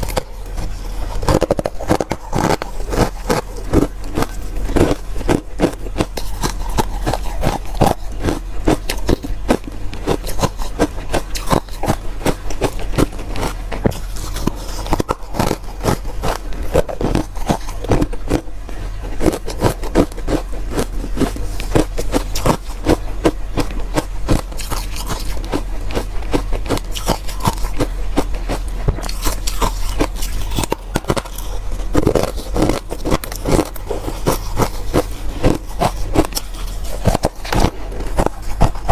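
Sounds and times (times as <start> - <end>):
ice being chewed: 0.0 - 38.9
steady low hum: 0.0 - 38.9.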